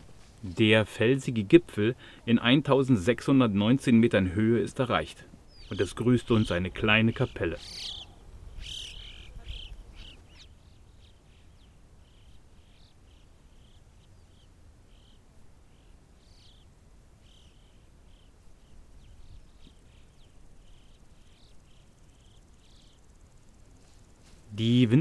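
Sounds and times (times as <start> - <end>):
small birds chirping: 3.6 - 25.0.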